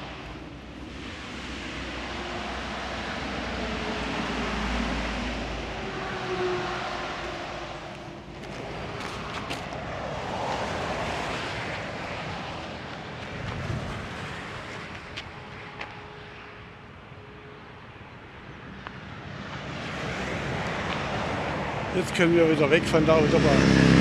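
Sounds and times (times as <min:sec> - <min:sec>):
motorway traffic rushing: 0:00.0 - 0:24.0.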